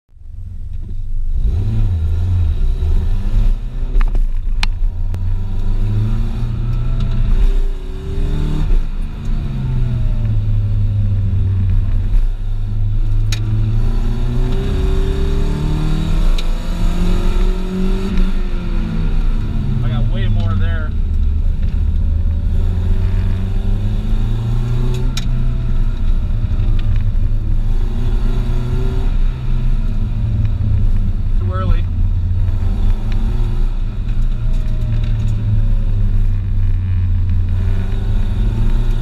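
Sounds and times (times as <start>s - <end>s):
car engine revving: 0.2s - 39.0s.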